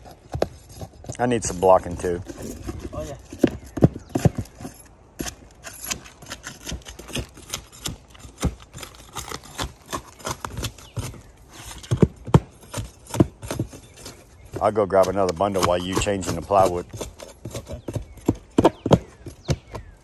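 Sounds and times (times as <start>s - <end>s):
tool tapping on roof shingles: 0.0s - 20.0s.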